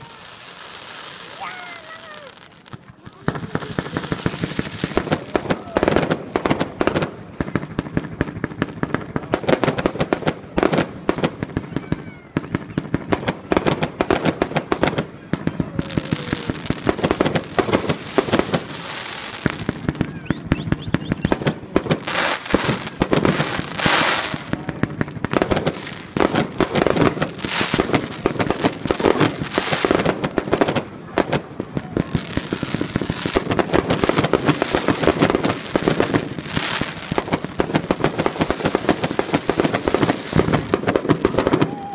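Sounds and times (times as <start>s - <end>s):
crackling hiss: 0.0s - 11.6s, 13.2s - 41.9s
firecrackers banging: 0.0s - 41.9s.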